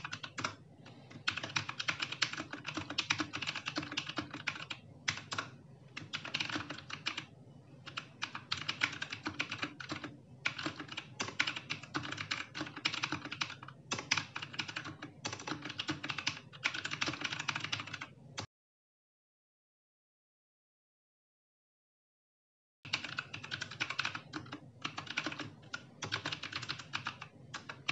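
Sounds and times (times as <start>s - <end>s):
fast mechanical keyboard typing: 0.0s - 18.1s, 22.9s - 27.9s.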